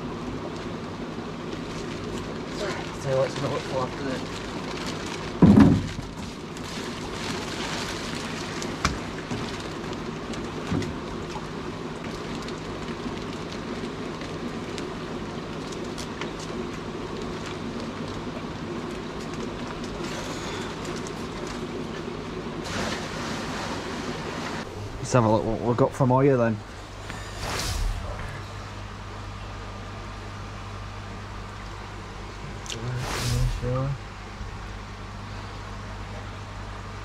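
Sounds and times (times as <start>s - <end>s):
low even hum: 0.0s - 37.0s.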